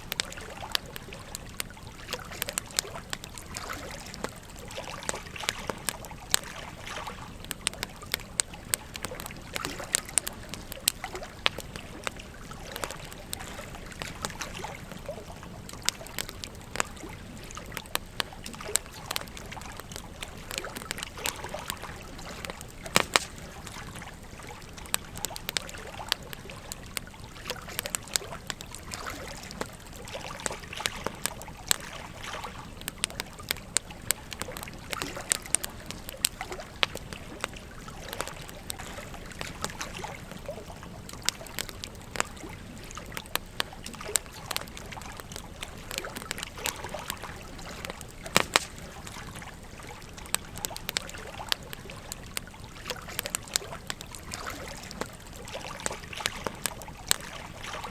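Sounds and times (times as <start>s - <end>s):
campfire crackling and popping: 0.0s - 57.9s
stream trickling: 0.0s - 57.9s.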